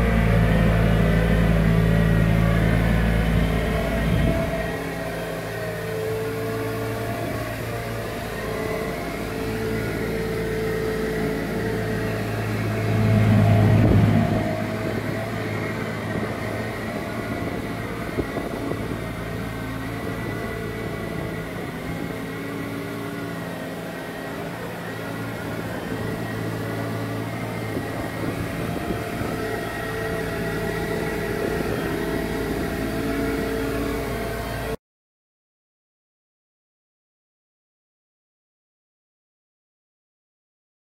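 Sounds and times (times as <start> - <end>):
diesel sweeper engine running: 0.0 - 34.8.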